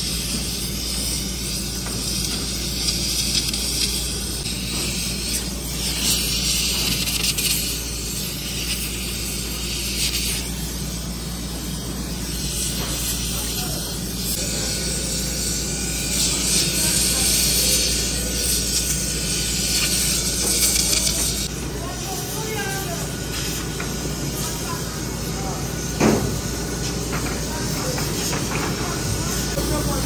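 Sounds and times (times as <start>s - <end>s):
factory machinery humming: 0.0s - 30.0s
hissing bursts: 0.0s - 30.0s.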